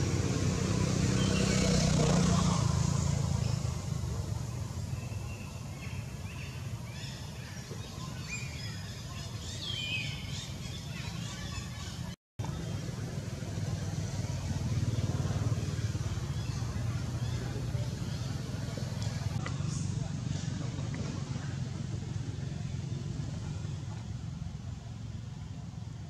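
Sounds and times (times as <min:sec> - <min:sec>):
distant traffic rumble: 0:00.0 - 0:26.0.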